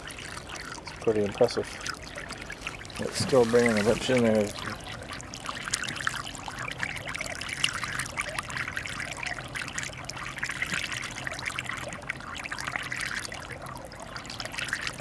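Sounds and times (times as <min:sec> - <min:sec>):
pool skimmer splashing water: 0:00.0 - 0:15.0.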